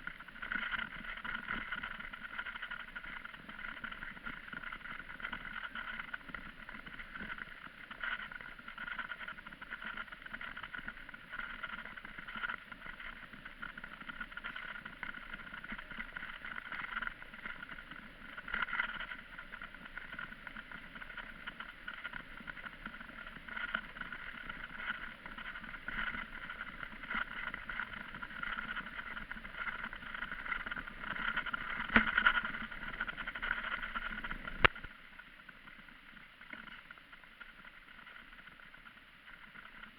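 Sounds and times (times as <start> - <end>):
bicycle ride rushing noise: 0.1 - 34.9.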